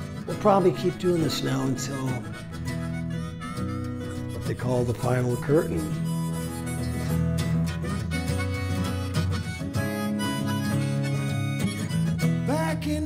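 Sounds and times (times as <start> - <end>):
harmonica melody: 0.0 - 13.0
strummed acoustic guitars: 0.0 - 13.0.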